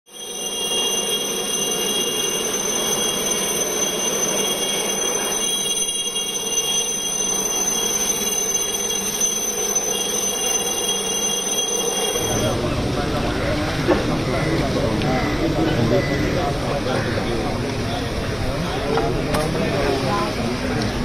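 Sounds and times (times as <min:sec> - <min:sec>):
helicopter hovering: 0:00.1 - 0:21.0.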